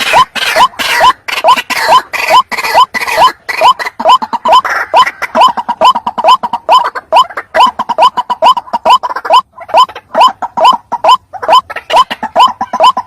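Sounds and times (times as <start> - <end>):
waterhen calling harsh notes: 0.0 - 13.0.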